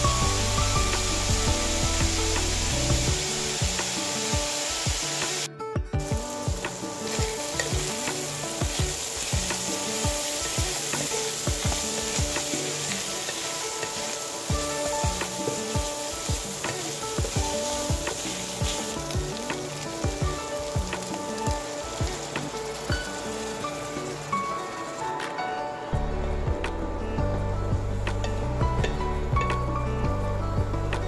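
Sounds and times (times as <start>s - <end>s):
meat sizzling in a wok: 0.0s - 25.3s
soft background music: 0.0s - 31.0s.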